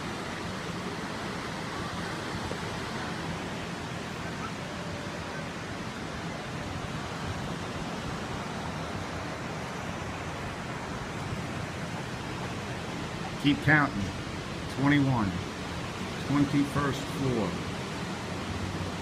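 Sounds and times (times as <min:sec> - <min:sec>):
distant ocean surf: 0:00.0 - 0:19.0.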